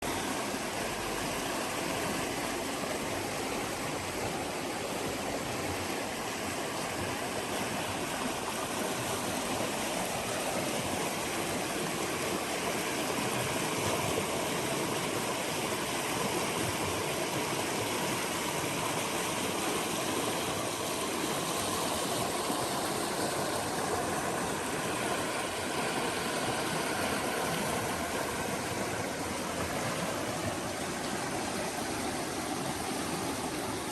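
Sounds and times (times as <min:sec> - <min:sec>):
stream water flowing: 0:00.0 - 0:33.9.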